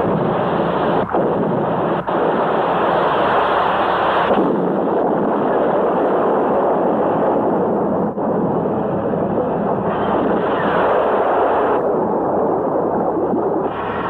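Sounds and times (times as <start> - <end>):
underwater explosion blast: 0.0 - 14.0.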